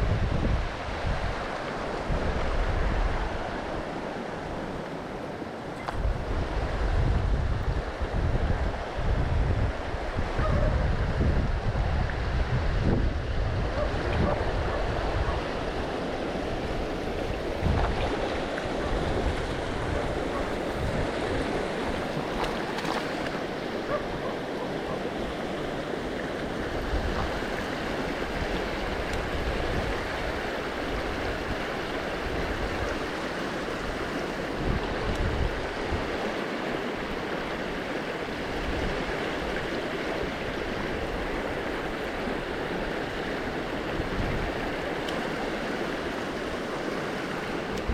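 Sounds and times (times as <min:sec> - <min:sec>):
wind buffeting microphone: 0:00.0 - 0:36.3, 0:37.0 - 0:47.9
river water flowing: 0:00.0 - 0:47.9.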